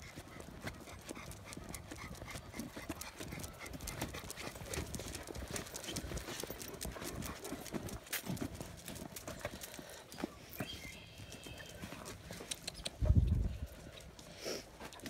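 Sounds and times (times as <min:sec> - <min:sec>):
footsteps on asphalt: 0:00.1 - 0:12.3.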